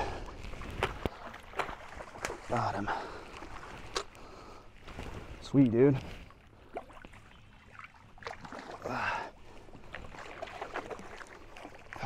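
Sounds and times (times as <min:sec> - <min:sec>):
soft water noise: 0:00.0 - 0:12.0.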